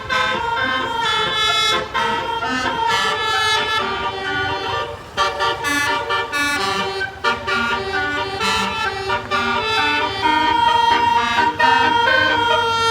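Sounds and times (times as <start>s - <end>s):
musical bus air horn: 0.0s - 12.9s.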